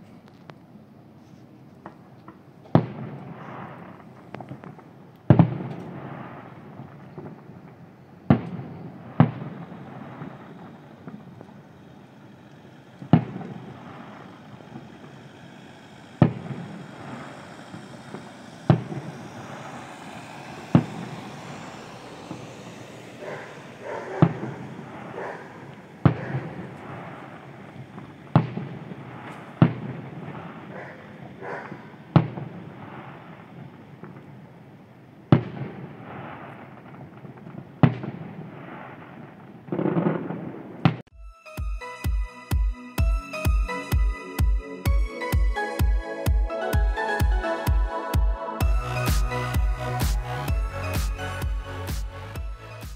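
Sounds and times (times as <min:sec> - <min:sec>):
small firework crackles: 0:00.0 - 0:41.1, 0:48.6 - 0:52.9
firework booms with echo: 0:02.7 - 0:41.1, 0:48.6 - 0:52.9.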